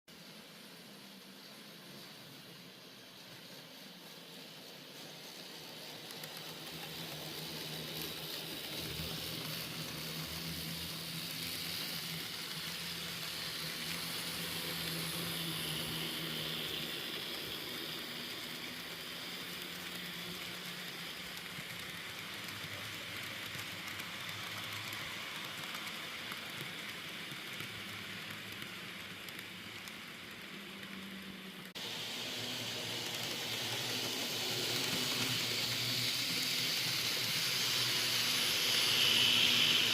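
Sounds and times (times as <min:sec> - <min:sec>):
model train whirring on track: 0:00.1 - 0:39.9.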